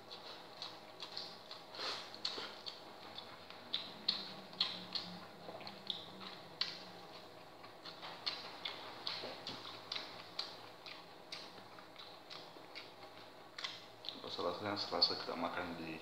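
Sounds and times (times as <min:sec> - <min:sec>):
chewing and lip smacking: 0:00.0 - 0:14.4.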